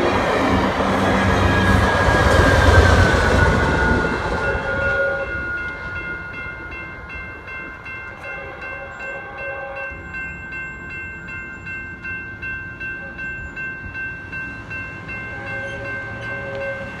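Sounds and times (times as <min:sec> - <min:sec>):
crossing warning bells ringing: 0:00.0 - 0:17.0
train rumble: 0:00.0 - 0:17.0.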